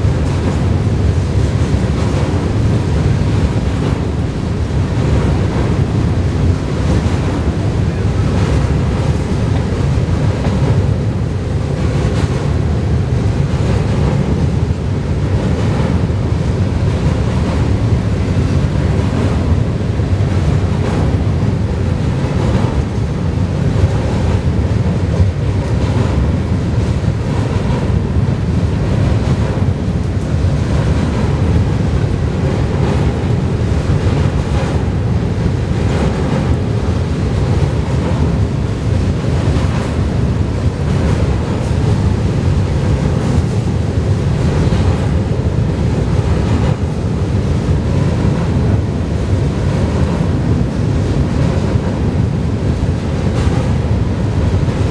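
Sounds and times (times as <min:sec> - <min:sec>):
freight train rumbling over bridge: 0:00.0 - 0:54.9
wind buffeting microphone: 0:00.0 - 0:54.9.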